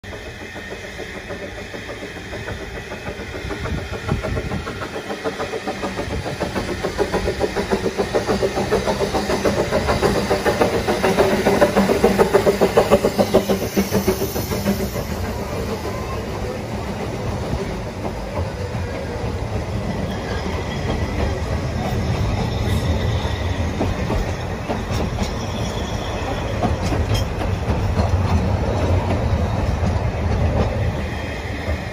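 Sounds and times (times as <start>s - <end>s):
steam locomotive exhaust beats: 0.0s - 31.9s.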